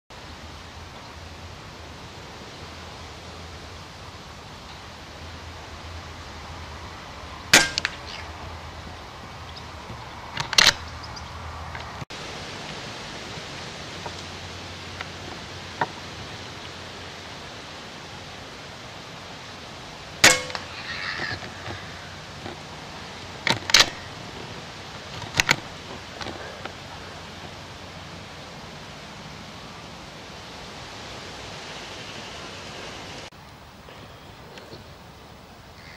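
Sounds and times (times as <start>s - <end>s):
steady background hiss: 0.1s - 35.9s.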